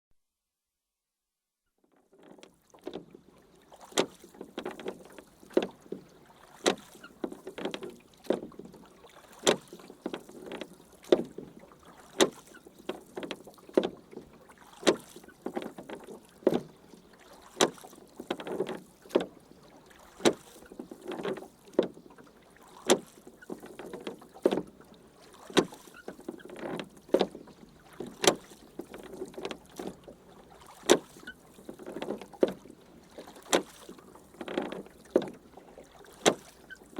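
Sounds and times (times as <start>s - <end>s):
oars splashing water: 2.0s - 36.9s
oars knocking: 3.8s - 19.4s, 20.0s - 36.9s.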